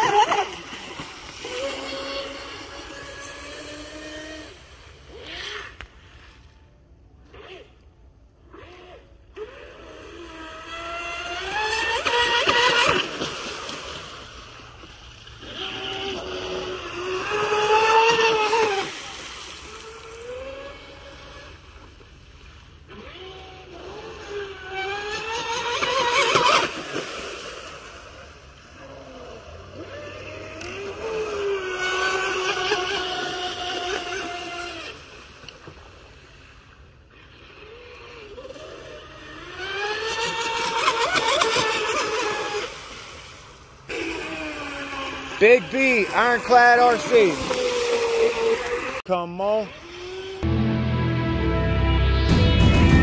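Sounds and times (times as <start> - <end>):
rc boat motor whine: 0.0 - 50.8.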